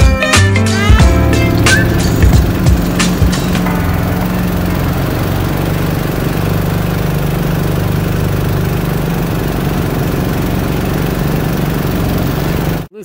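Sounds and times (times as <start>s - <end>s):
small gas engine running: 0.0s - 12.9s.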